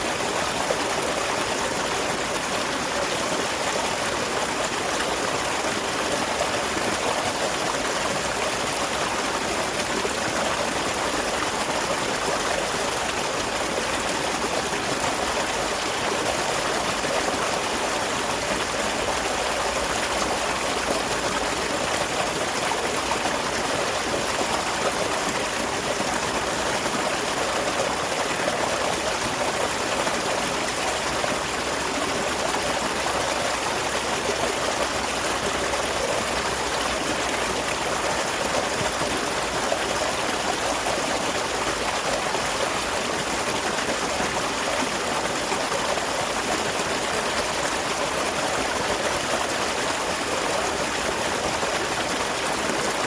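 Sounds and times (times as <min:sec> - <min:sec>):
small waterfall splashing: 0:00.0 - 0:53.0.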